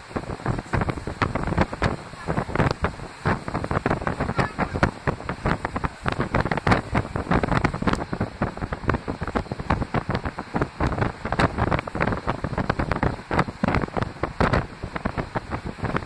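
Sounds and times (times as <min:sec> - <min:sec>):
train running noise: 0:00.0 - 0:16.0
wind buffeting microphone: 0:00.0 - 0:16.0.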